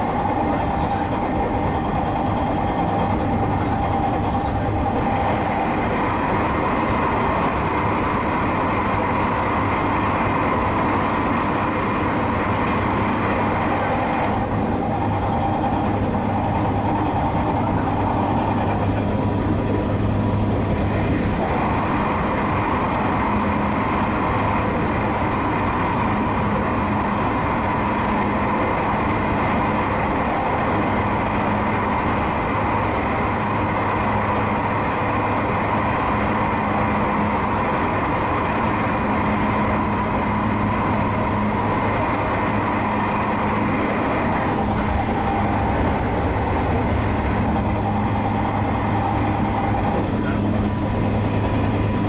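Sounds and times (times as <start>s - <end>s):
constant train hum: 0.0s - 52.0s
train wheels rumbling on rails: 0.0s - 52.0s.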